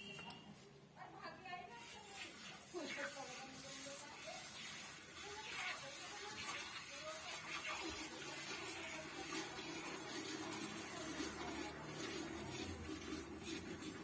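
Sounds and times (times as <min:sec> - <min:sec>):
milk squirting into metal pail: 0:01.7 - 0:14.0.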